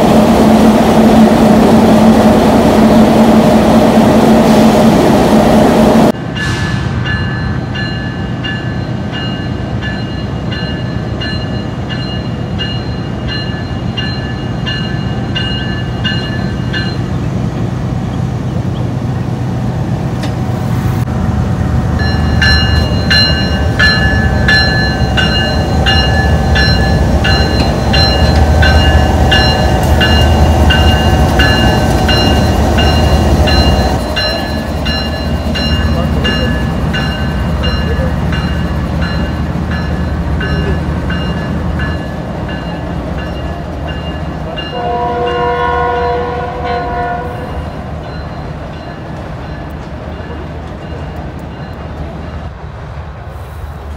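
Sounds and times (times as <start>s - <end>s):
locomotive engine hum: 0.0s - 53.9s.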